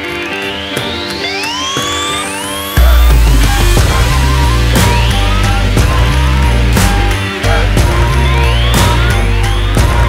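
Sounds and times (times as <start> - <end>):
loud music with heavy bass: 0.3 - 10.0.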